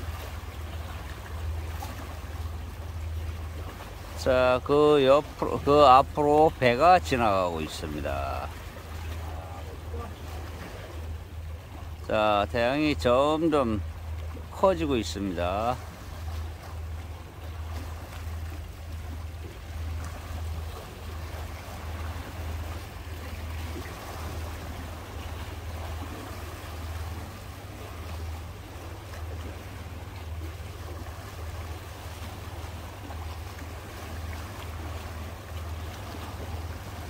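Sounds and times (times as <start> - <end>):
waves lapping against rocks: 0.0 - 37.0.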